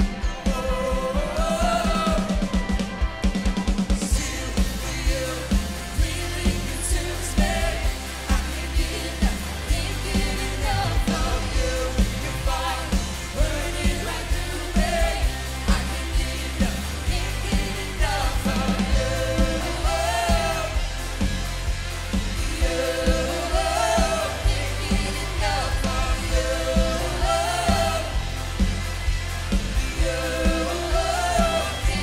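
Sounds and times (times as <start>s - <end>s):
person singing: 0.0s - 2.8s, 4.1s - 20.9s, 22.5s - 28.3s, 29.9s - 32.0s
steady drum beat: 0.0s - 32.0s
worship band playing: 0.0s - 32.0s.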